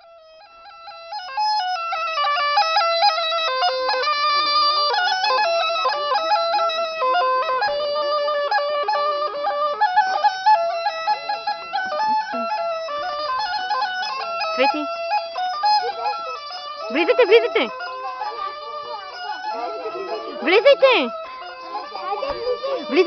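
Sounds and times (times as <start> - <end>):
bagpipe folk dance tune: 0.0 - 23.0.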